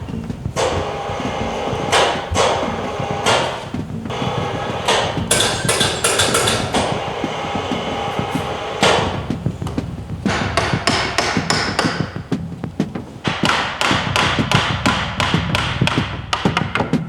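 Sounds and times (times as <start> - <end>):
hammer blows on wood: 0.0 - 17.0.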